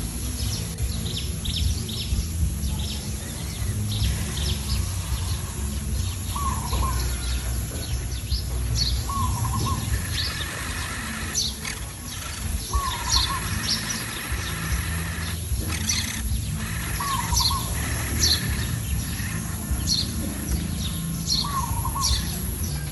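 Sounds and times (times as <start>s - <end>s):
steady low rumble: 0.0s - 22.9s
wild birds chirping: 0.0s - 22.9s.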